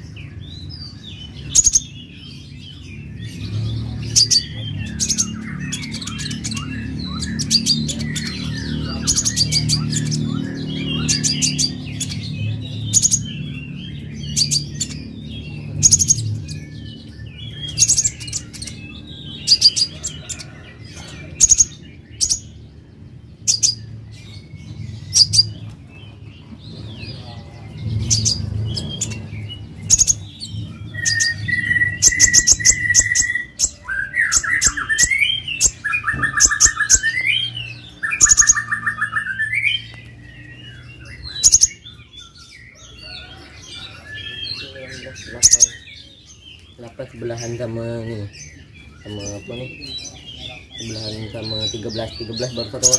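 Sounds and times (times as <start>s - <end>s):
bird chirping and warbling: 0.0s - 52.9s.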